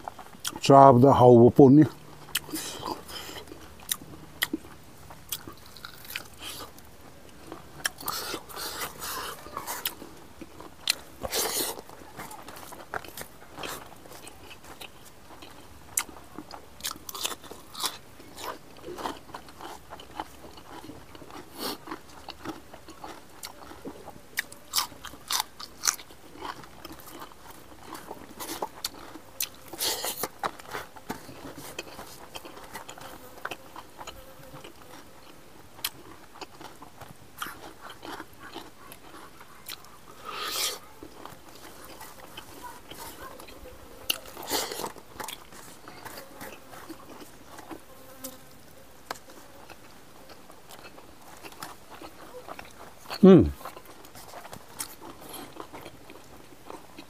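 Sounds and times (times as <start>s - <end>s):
person chewing food: 0.0s - 0.7s, 1.7s - 57.0s.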